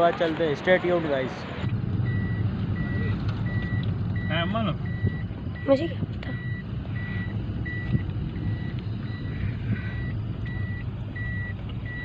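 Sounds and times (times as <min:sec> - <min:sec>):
car engine running: 0:00.0 - 0:12.0
car warning buzzer beeping: 0:02.1 - 0:12.0.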